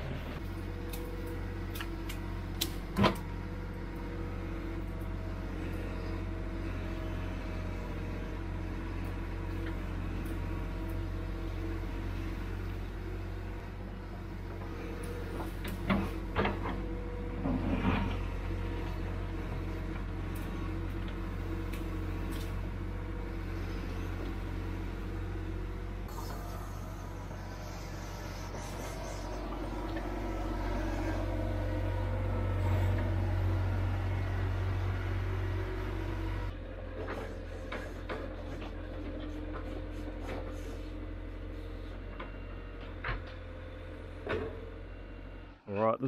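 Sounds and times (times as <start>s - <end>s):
diesel engine running: 0.0s - 45.7s.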